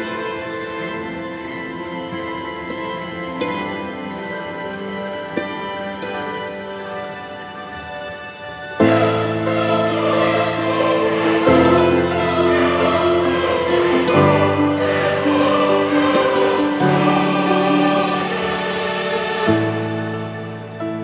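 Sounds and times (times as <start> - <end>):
choir-like voices over chords: 0.0 - 21.0.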